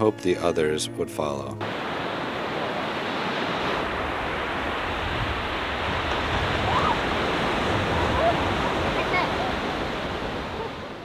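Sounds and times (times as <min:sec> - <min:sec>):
waves breaking on beach: 0:01.6 - 0:11.0.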